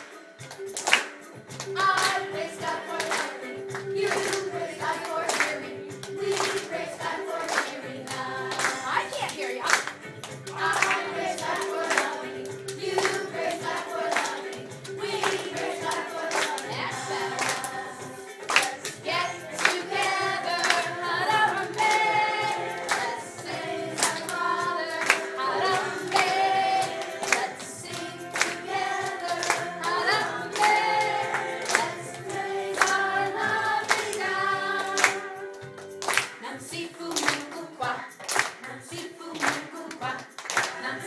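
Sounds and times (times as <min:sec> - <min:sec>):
hands clapping to beat: 0:00.0 - 0:41.0
children's choir singing: 0:01.8 - 0:09.2, 0:10.5 - 0:35.7, 0:36.4 - 0:41.0.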